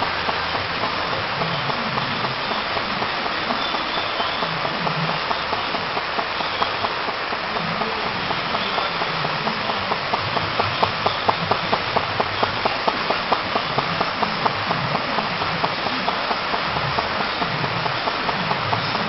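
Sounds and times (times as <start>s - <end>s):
model engine ticking: 0.0s - 19.0s
steady hiss: 0.0s - 19.0s.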